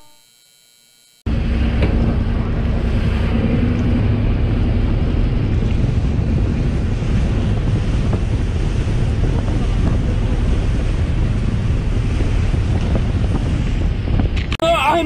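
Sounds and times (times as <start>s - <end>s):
boat engine droning: 0.0s - 14.5s
water rushing past hull: 1.3s - 15.0s
wind buffeting microphone: 1.3s - 15.0s.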